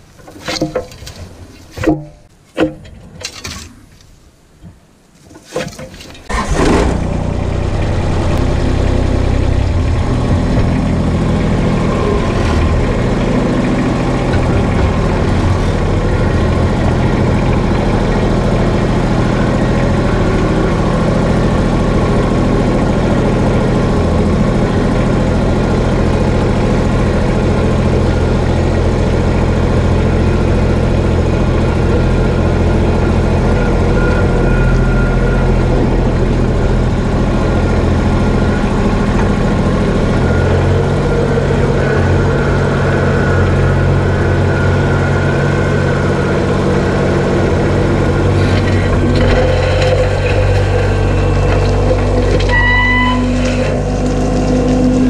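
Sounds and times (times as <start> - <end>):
tractor diesel engine running: 6.2 - 55.0.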